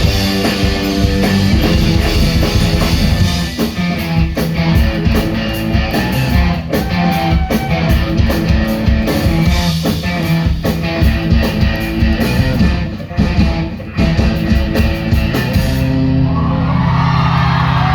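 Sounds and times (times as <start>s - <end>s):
drum kit: 0.0s - 16.3s
bass guitar: 0.0s - 17.9s
electric guitars: 0.0s - 17.9s.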